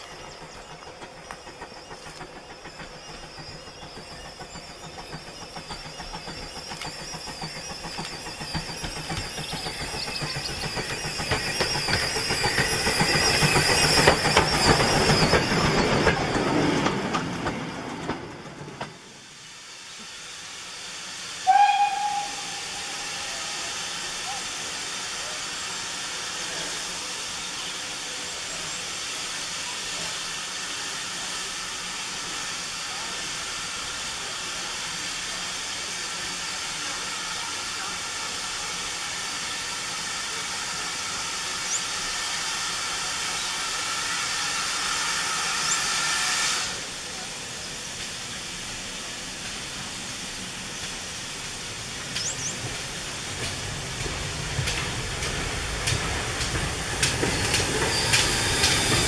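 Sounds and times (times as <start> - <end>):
low rumble of train: 0.0 - 59.0
steam locomotive hissing: 0.0 - 59.0.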